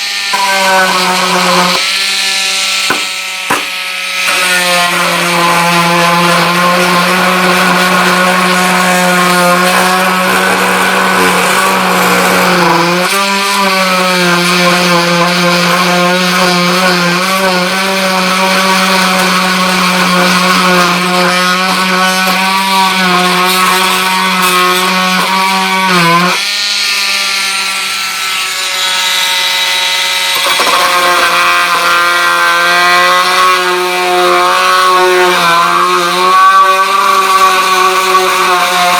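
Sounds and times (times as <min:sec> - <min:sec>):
oscillating multi-tool buzzing: 0:00.0 - 0:38.9.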